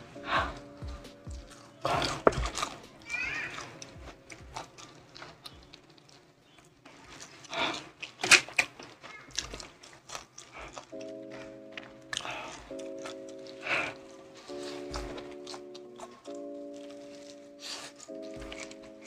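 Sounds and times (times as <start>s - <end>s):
wet crackly chewing: 0.0s - 19.0s
biting crispy fried chicken: 1.4s - 19.0s.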